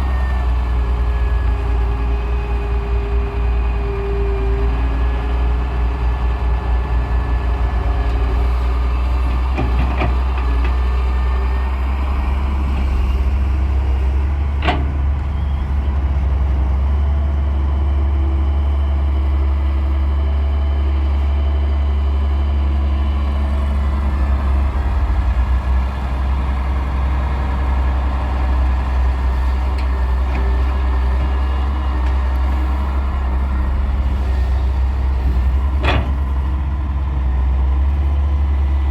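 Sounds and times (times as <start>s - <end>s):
digger diesel engine rumbling: 0.0s - 38.9s.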